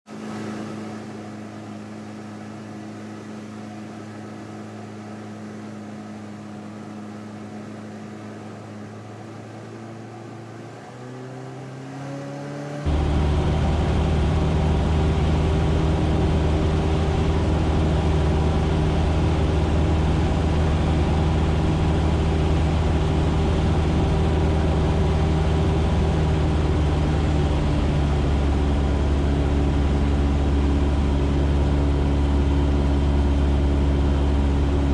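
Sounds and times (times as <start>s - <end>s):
small plane engine and propeller: 0.1s - 34.9s.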